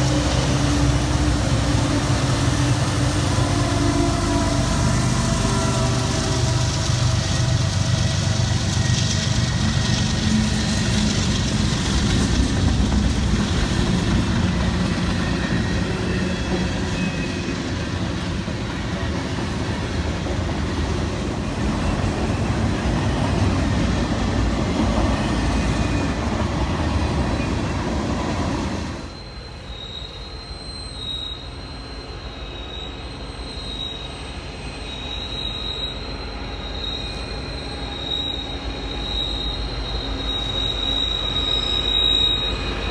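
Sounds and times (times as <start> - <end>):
freight train rumbling: 0.0 - 42.9
wheels squealing on rails: 0.0 - 42.9.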